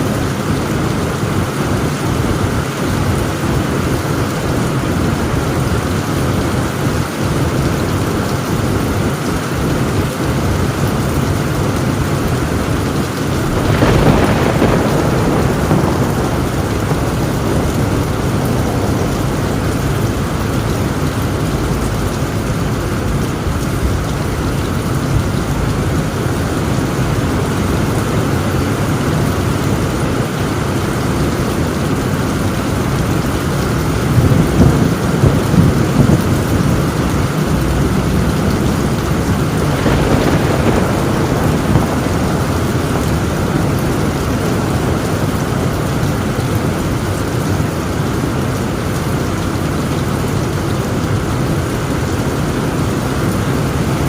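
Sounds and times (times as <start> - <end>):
heavy rain on a tin roof: 0.0 - 54.0
thunderclap rumbling: 0.0 - 54.0.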